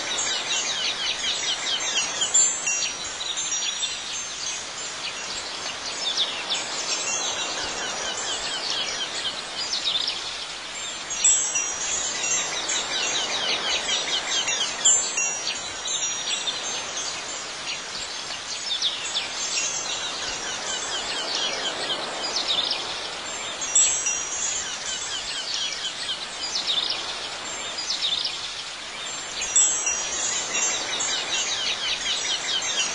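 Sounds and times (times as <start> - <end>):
chimes tinkling: 0.0 - 10.1, 10.7 - 28.3, 29.1 - 32.9
soft steady hiss: 0.0 - 32.9.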